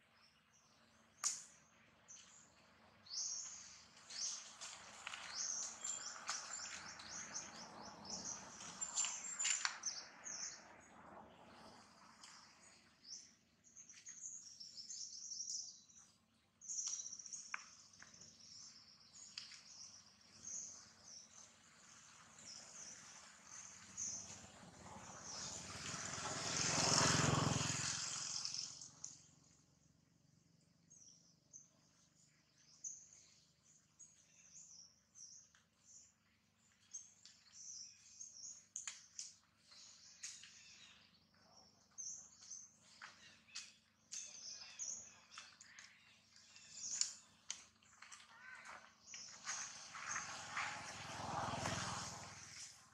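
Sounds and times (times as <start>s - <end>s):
birds chirping: 0.0s - 24.4s, 30.9s - 50.7s.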